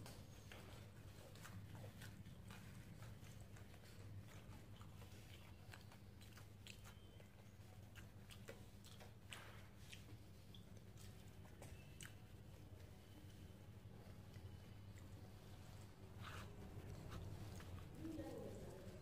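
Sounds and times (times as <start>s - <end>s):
faint chewing: 0.0s - 19.0s.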